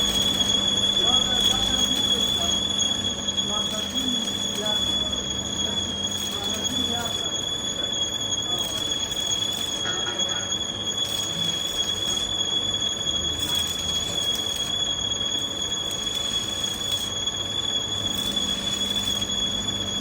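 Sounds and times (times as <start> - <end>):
boring machine cutting steel: 0.0 - 20.0
high-pitched squeal: 0.0 - 20.0.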